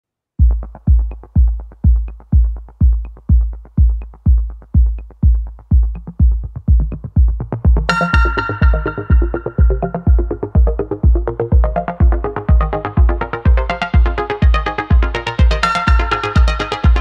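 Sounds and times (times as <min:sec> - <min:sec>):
electronic dance music: 0:00.4 - 0:17.0
steady kick drum: 0:00.4 - 0:17.0
synth chords: 0:00.4 - 0:17.0.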